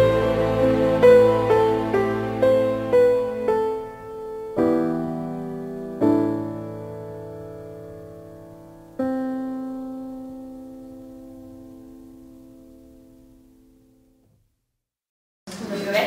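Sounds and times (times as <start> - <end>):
slow piano chords: 0.0 - 14.2.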